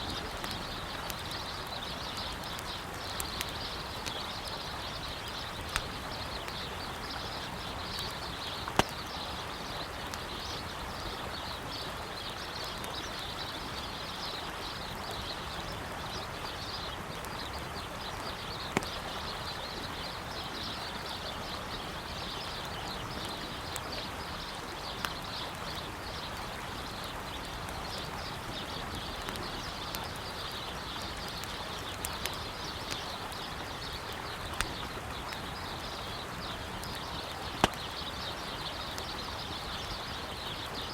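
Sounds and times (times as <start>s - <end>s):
birds chirping: 0.0s - 40.9s
crackling campfire: 0.0s - 40.9s
river water running: 0.0s - 40.9s.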